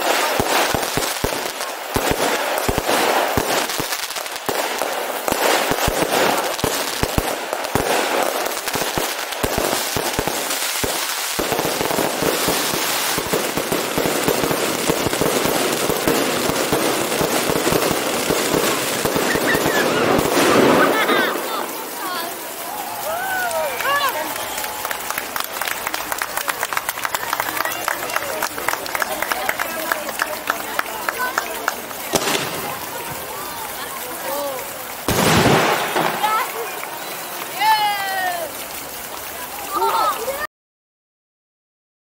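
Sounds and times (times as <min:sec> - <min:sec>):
fireworks bangs and crackles: 0:00.0 - 0:40.5.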